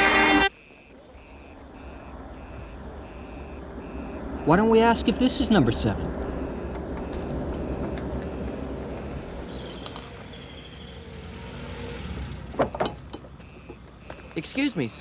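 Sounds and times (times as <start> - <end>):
car engine running at low speed: 1.7 - 14.4.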